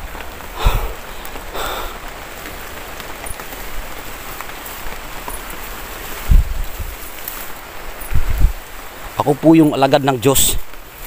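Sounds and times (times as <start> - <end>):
foliage rustling: 0.0 - 11.0
rain pattering on leaves: 0.0 - 11.0.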